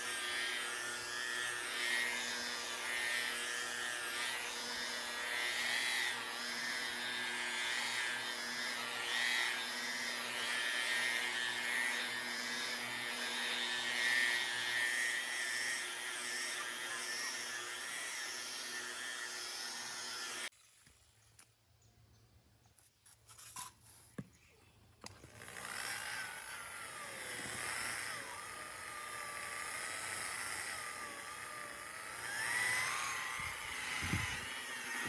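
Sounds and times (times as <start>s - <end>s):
power tool whining: 0.0s - 20.5s, 25.1s - 35.0s.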